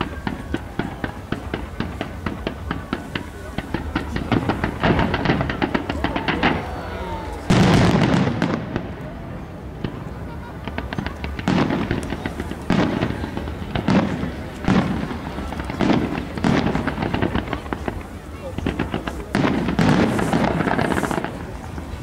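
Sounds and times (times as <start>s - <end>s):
firework shells bursting: 0.0s - 6.7s, 10.6s - 21.6s
firework crackles: 0.0s - 22.0s.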